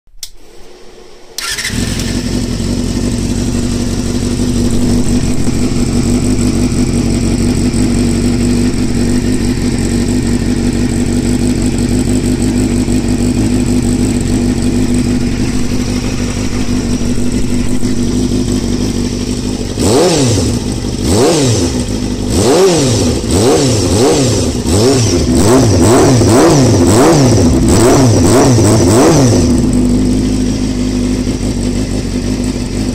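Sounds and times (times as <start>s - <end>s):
motorcycle engine idling: 1.4s - 32.9s
motorcycle engine revving: 1.4s - 32.9s.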